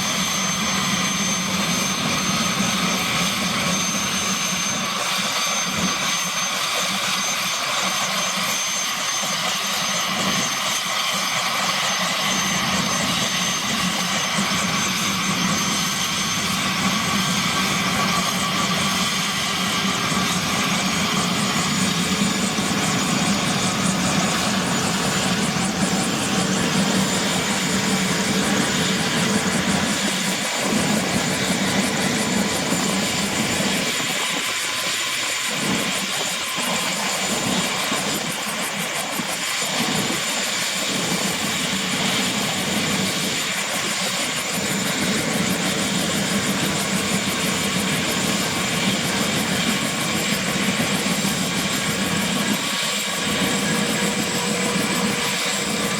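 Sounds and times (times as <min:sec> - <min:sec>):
helicopter engine and rotor noise: 0:00.0 - 0:55.9
helicopter turbine whine: 0:00.0 - 0:55.9.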